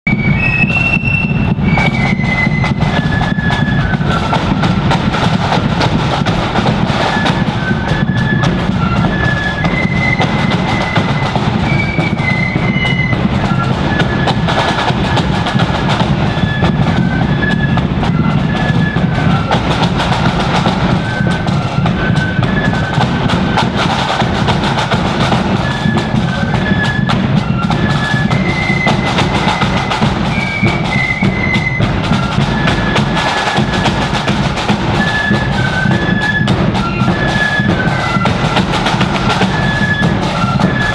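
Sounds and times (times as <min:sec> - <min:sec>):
snare drums rattling: 0:00.0 - 0:40.9
flutes playing melody: 0:00.1 - 0:40.9.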